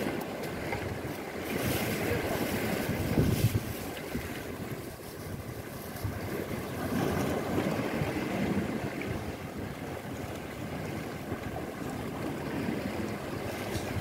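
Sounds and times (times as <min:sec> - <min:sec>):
waves washing against rocks: 0:00.0 - 0:14.0
wind buffeting microphone: 0:00.0 - 0:14.0.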